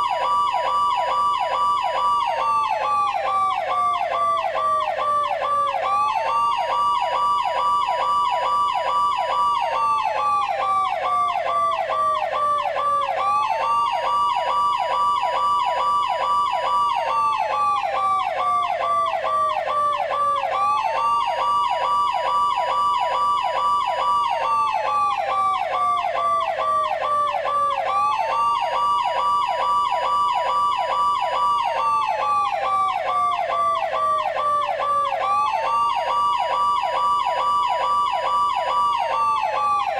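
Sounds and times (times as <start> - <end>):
fast siren warble: 0.0 - 39.9
police siren wail: 0.0 - 39.9.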